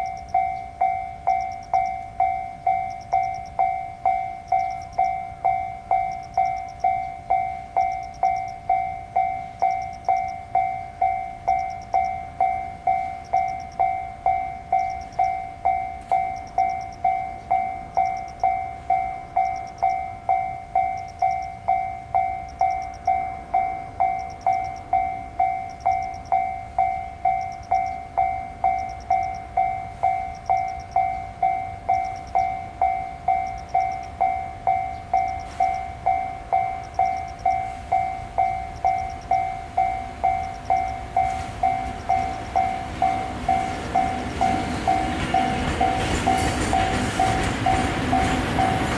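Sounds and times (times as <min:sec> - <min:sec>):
level crossing bell ringing: 0:00.0 - 0:48.9.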